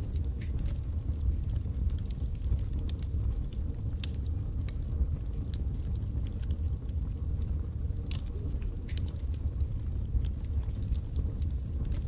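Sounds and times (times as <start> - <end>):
fire crackling and popping: 0.0 - 12.0
low rumble of flames: 0.0 - 12.0.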